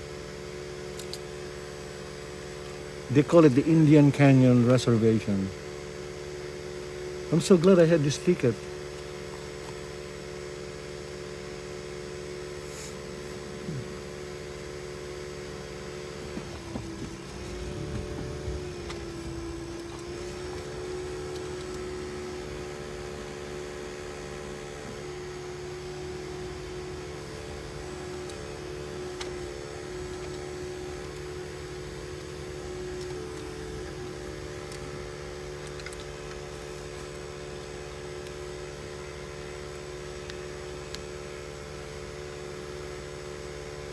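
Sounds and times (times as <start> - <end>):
car engine hum in cabin: 0.0 - 43.9.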